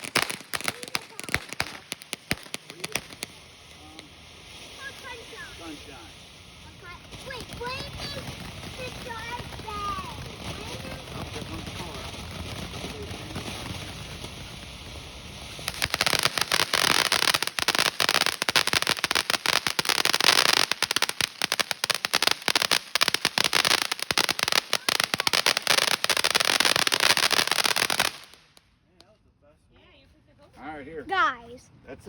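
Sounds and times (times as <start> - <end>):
firework crackling pops: 0.0 - 29.2.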